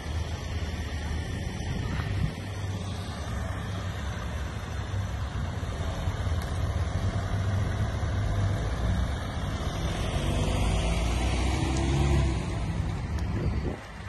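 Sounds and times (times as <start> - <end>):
van engine driving past: 2.5 - 14.0.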